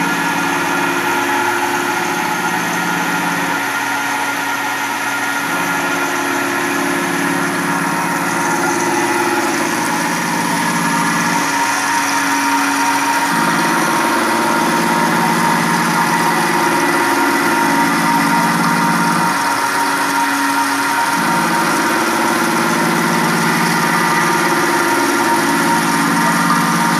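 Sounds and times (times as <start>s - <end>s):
milling machine cutting metal: 0.0s - 26.9s.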